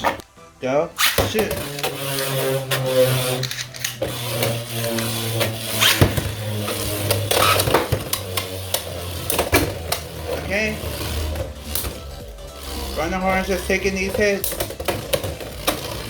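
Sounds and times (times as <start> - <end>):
spinning tops clacking together: 1.0 - 16.0
spinning tops rattling on plastic: 1.1 - 16.0.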